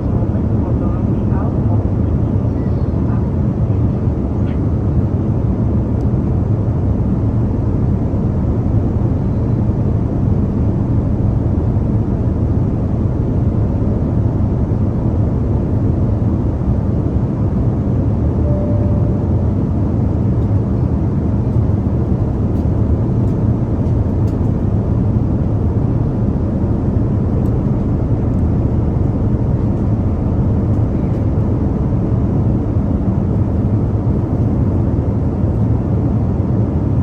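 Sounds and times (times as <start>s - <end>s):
airplane cabin roar in flight: 0.0s - 37.0s.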